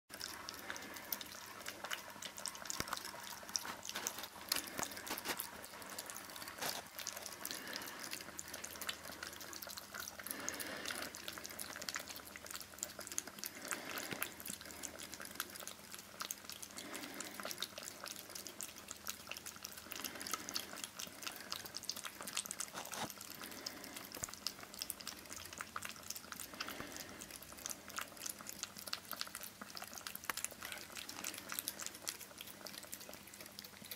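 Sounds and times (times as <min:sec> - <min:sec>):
kittens lapping from metal bowl: 0:00.1 - 0:33.9.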